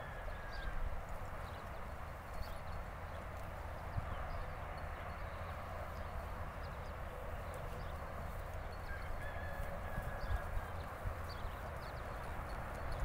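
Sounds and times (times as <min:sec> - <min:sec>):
muffled hoofbeats in sand: 0:00.0 - 0:13.0.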